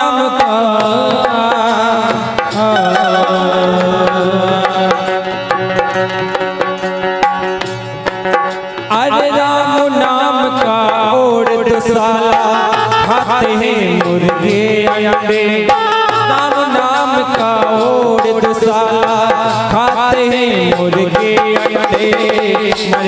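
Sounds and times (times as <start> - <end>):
man singing: 0.0 - 6.3, 8.8 - 23.0
tabla playing a beat: 0.0 - 23.0
held melody notes: 1.0 - 19.6.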